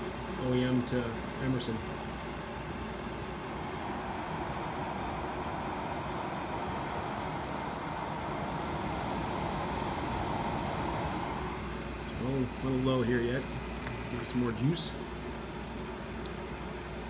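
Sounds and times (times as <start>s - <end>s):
dehumidifier airy whoosh: 0.0s - 17.0s.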